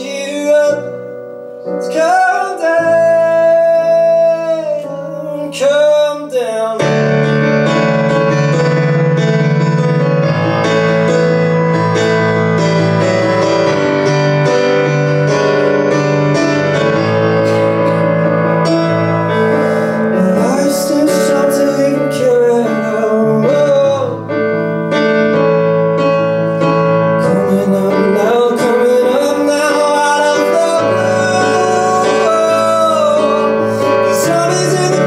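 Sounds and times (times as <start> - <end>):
piano playing held chords: 0.0 - 35.0.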